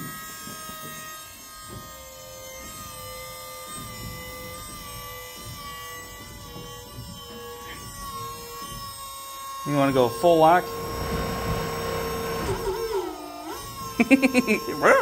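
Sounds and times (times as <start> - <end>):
electric motor whine: 1.4 - 15.0.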